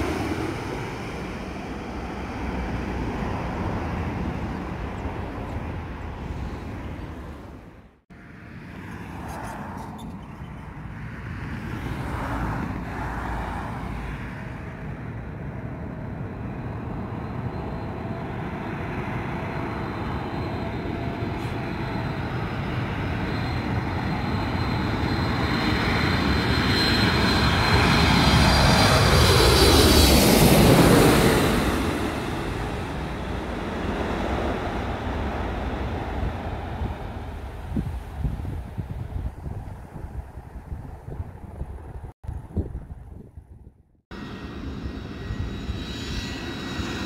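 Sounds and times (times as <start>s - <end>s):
jet engines passing overhead: 0.0s - 43.2s, 44.1s - 47.0s.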